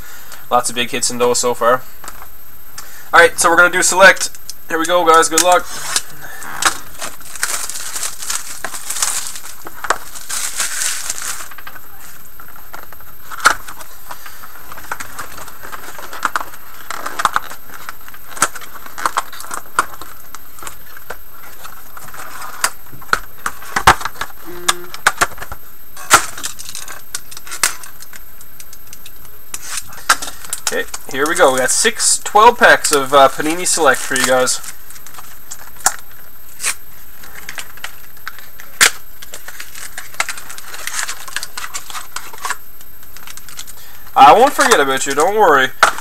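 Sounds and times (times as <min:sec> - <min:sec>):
plastic wrap crinkling: 0:04.3 - 0:24.4, 0:25.1 - 0:46.0.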